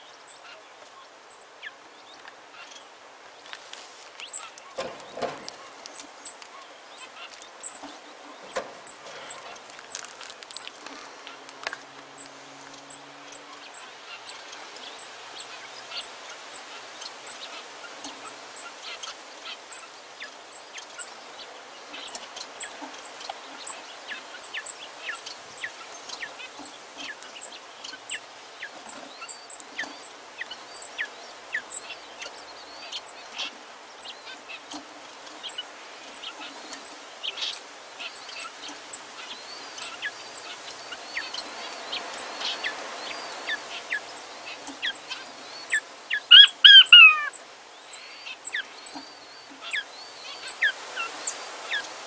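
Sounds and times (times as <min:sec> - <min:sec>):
quail chicks peeping: 0:00.0 - 0:52.0.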